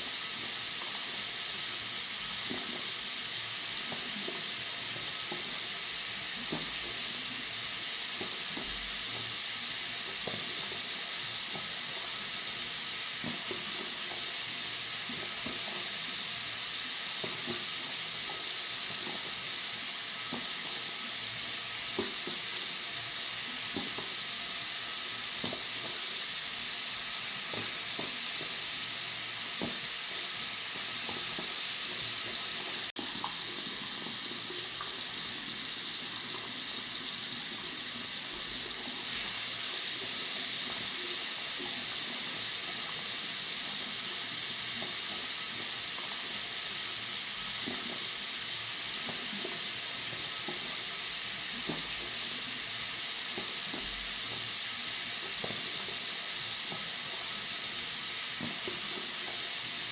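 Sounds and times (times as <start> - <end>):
water running from sink tap: 0.0 - 59.9.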